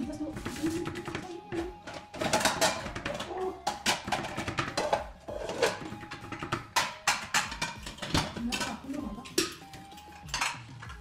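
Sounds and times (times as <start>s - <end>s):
background music: 0.0s - 11.0s
pots clinking: 0.4s - 11.0s.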